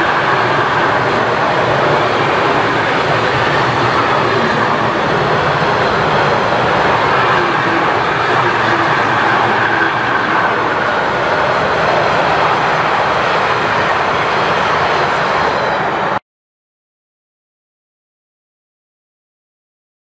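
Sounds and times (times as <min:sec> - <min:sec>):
train wheels running on rail: 0:00.0 - 0:16.2.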